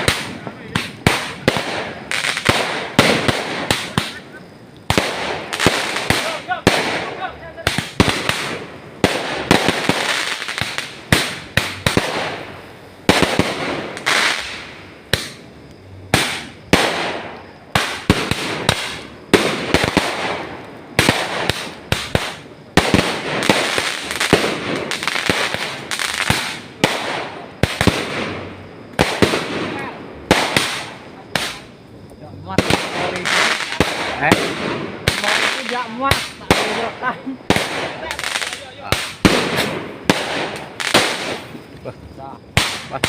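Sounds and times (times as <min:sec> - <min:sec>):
fireworks bangs with crackling: 0:00.0 - 0:43.0.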